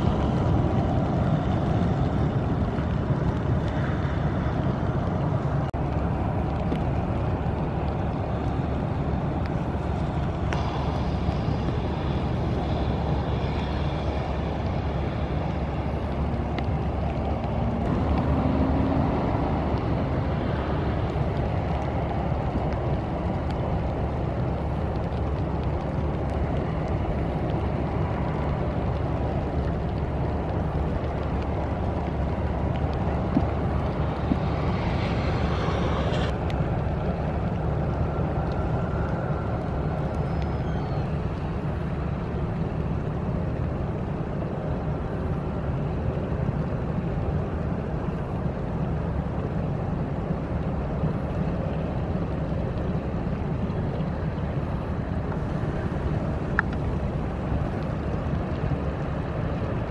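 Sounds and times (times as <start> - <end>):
water noise: 0.0 - 59.9
wind: 0.0 - 59.9.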